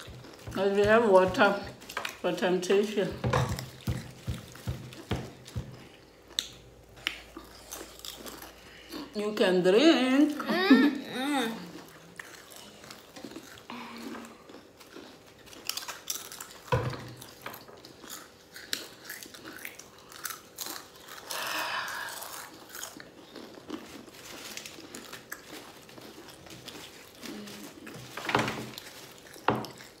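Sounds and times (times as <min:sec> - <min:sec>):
people crunching chips: 0:00.0 - 0:09.2, 0:10.2 - 0:30.0.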